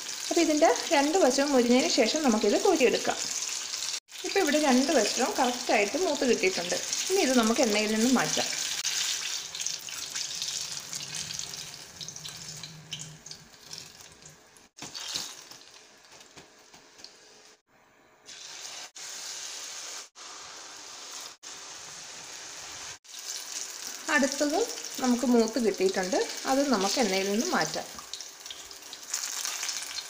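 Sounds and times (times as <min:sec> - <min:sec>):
oil sizzling while deep-frying: 0:00.0 - 0:17.6, 0:18.2 - 0:30.0.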